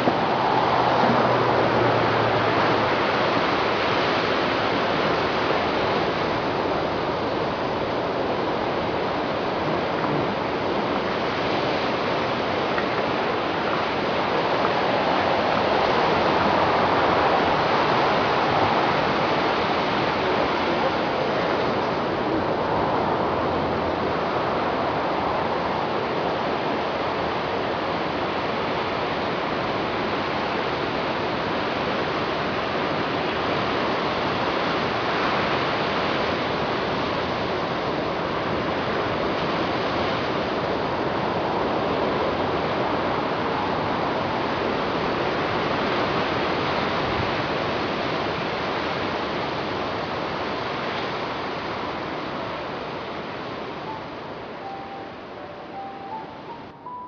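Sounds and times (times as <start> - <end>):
ocean surf breaking on beach: 0.0 - 56.9.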